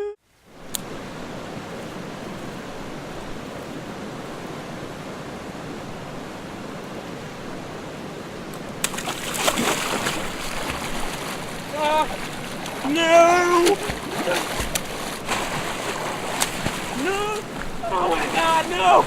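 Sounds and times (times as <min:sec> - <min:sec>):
stream water flowing: 0:00.3 - 0:19.0.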